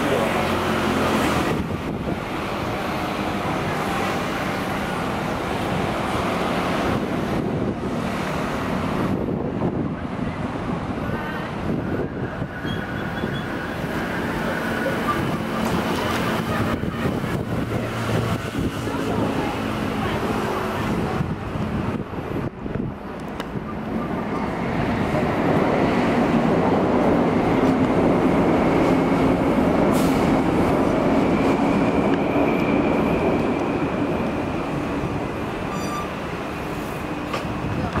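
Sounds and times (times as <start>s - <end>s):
traffic noise: 0.0s - 38.0s
wind buffeting microphone: 0.7s - 3.5s, 4.9s - 36.4s, 37.0s - 38.0s.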